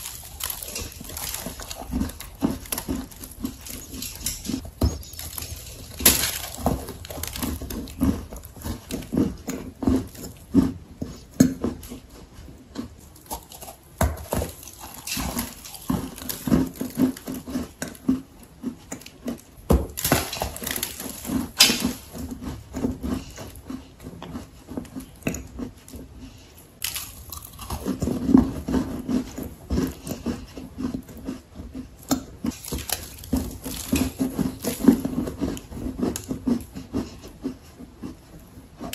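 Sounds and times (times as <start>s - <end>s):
gritty chewing crunches: 0.0s - 38.9s.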